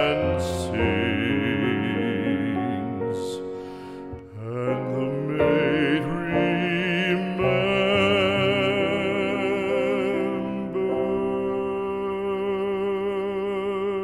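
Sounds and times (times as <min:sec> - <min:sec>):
classical singing with vibrato: 0:00.0 - 0:14.0.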